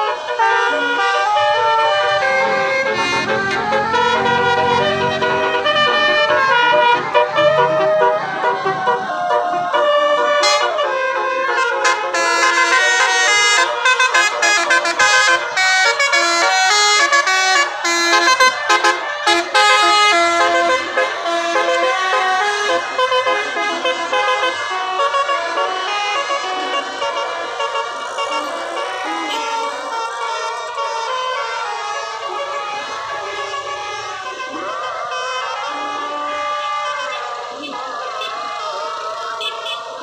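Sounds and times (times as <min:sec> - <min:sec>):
multi-tone air horn melody: 0:00.0 - 0:40.0.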